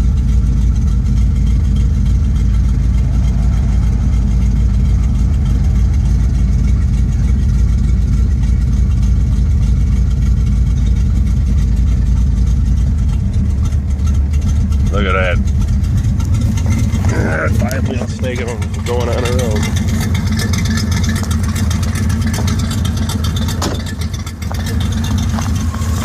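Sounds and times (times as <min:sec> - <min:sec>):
car engine running on light throttle: 0:00.0 - 0:26.0.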